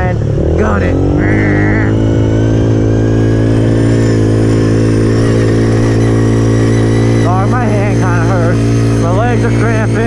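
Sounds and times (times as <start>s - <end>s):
pit bike engine running hard: 0.0s - 10.0s.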